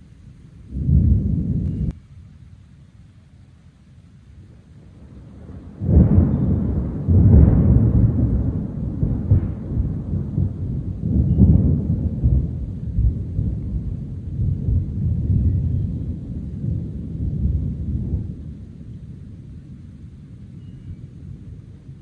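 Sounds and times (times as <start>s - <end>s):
thunder rumbling: 0.6s - 2.0s, 4.4s - 22.0s.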